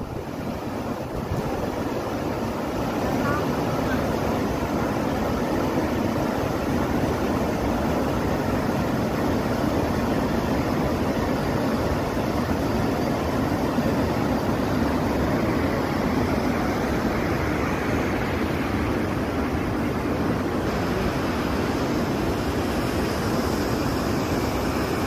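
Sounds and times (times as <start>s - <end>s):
river roaring over weir: 0.0s - 25.0s.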